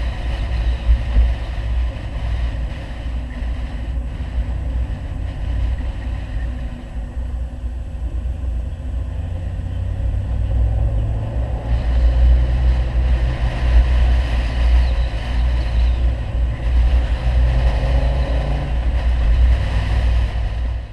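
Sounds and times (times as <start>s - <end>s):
car engine deep rumble: 0.0s - 20.9s.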